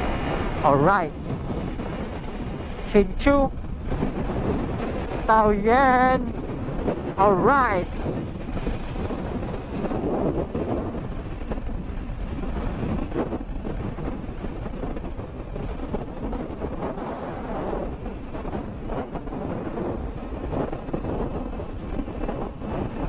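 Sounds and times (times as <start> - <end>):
scooter engine and tyre noise: 0.0 - 5.3, 6.2 - 7.2, 7.8 - 23.0
wind buffeting microphone: 0.0 - 23.0.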